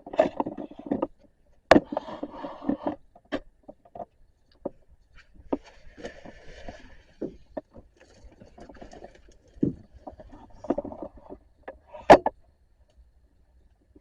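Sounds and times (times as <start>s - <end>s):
handling rubbing and scraping: 0.0s - 12.3s.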